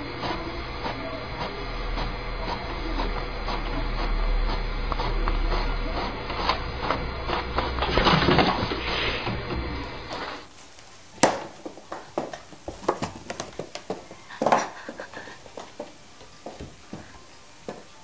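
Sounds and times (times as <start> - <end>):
inkjet printer running: 0.0 - 18.0.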